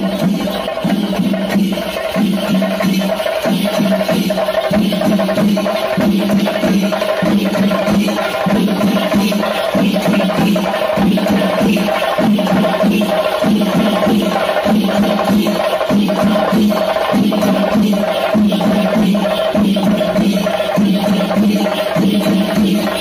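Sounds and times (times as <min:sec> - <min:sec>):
drums playing fast rhythm: 0:00.0 - 0:23.0.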